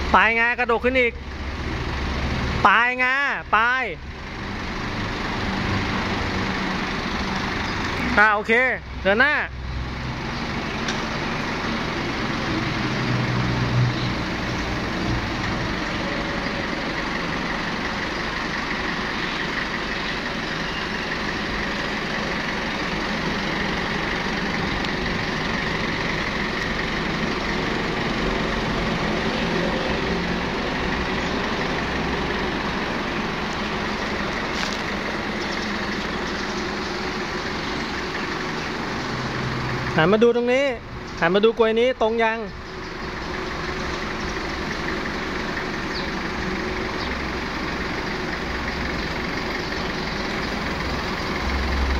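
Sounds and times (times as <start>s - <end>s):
forklift engine running: 0.0s - 51.9s.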